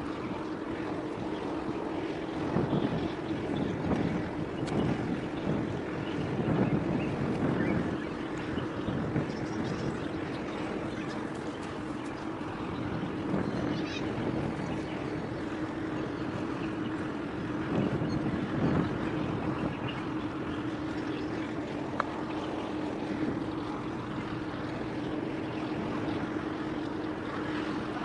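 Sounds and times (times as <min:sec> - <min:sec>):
ship engines droning: 0:00.0 - 0:28.0.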